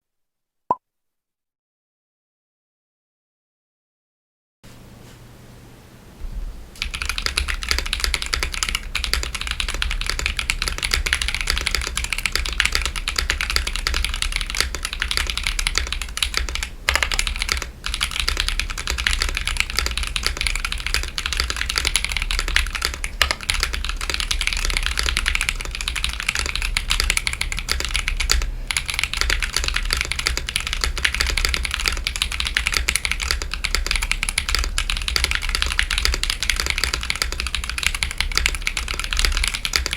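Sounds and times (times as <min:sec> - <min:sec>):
fast typing on mechanical keyboard: 0:06.8 - 0:39.9.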